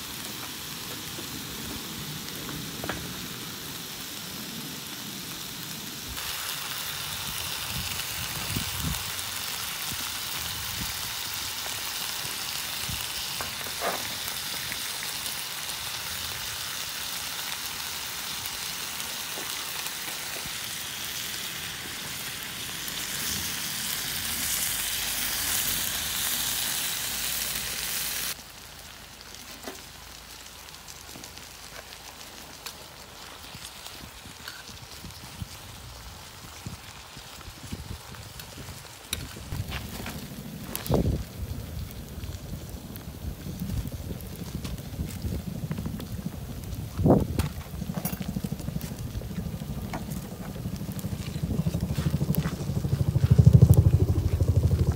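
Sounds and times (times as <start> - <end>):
octopus sizzling on griddle: 0.0 - 52.1.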